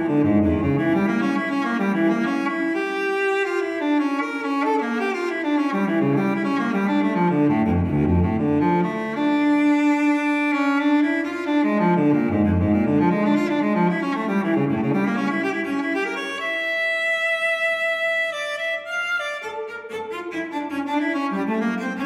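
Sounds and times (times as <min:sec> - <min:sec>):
string-like melody with bass notes: 0:00.0 - 0:22.0.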